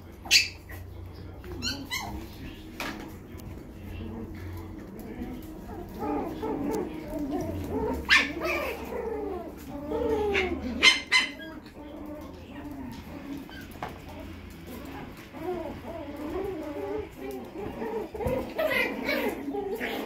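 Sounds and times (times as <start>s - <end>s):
puppies whining and squeaking: 0.1s - 20.0s
puppies yapping: 0.1s - 20.0s.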